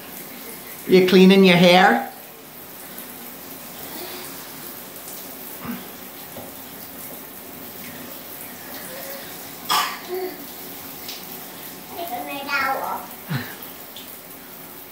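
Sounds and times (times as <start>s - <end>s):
shower spray hissing: 2.5s - 14.9s.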